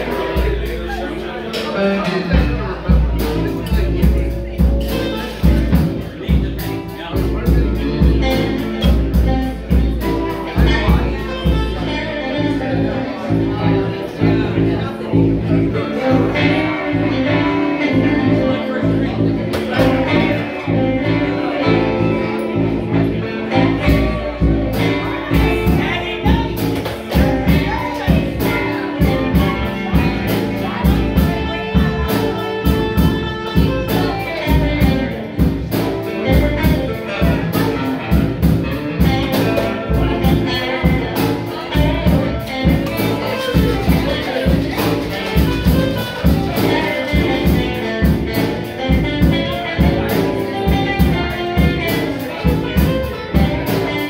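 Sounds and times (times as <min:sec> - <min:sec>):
drum kit steady beat: 0:00.0 - 0:54.0
electric guitars: 0:00.0 - 0:54.0.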